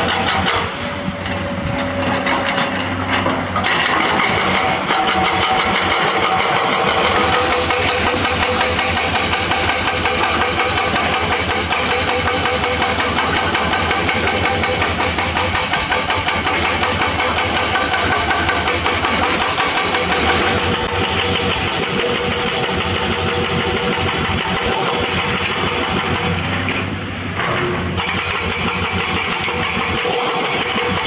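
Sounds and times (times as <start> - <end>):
excavator diesel engine running: 0.0 - 31.0
hydraulic breaker hammering rock: 0.0 - 31.0.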